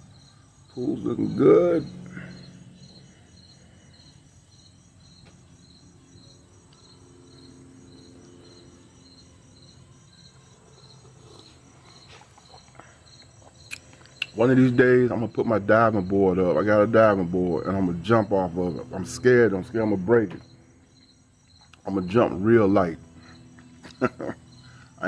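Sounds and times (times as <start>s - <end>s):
cricket chirping: 0.0s - 25.0s
faint low hum: 0.0s - 25.0s.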